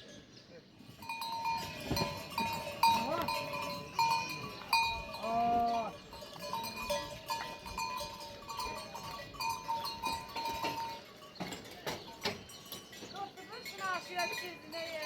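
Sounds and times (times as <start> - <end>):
livestock bells clinking: 0.0 - 15.0.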